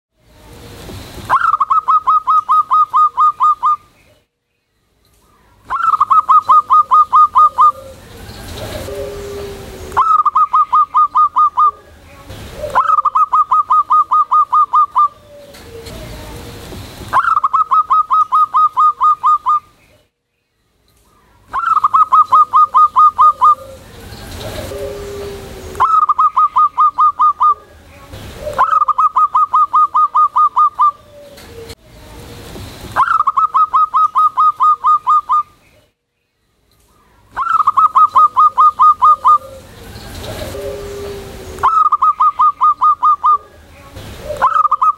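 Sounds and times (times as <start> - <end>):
dove cooing: 1.3 - 3.9, 5.7 - 19.7, 21.5 - 31.8, 33.0 - 35.6, 37.3 - 44.9.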